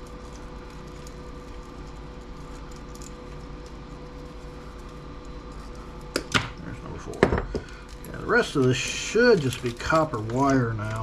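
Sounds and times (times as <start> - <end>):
workshop hum: 0.0 - 11.0.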